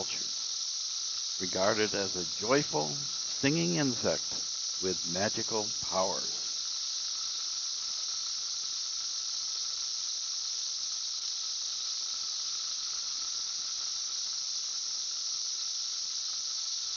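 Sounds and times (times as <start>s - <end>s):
cicada buzzing: 0.0s - 16.9s.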